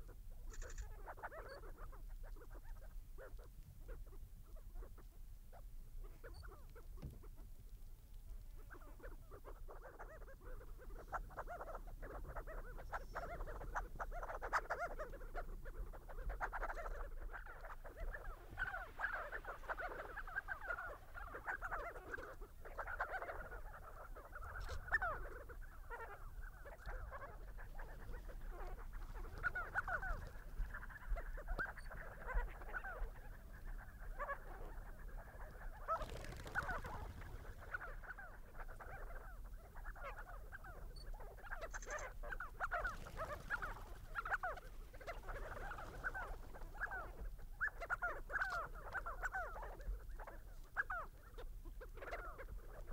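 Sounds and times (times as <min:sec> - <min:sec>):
sandgrouse flock chattering calls: 0:00.0 - 0:52.9.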